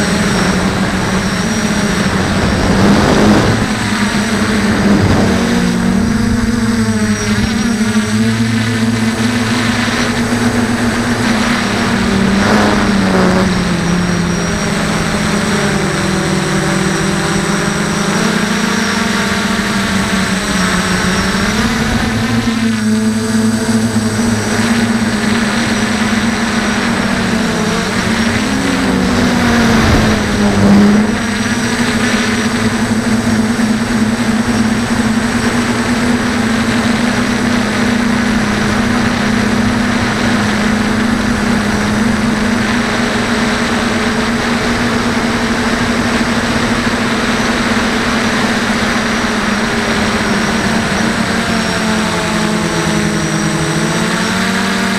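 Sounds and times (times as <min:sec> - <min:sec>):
quadcopter propellers buzzing: 0:00.0 - 0:54.9.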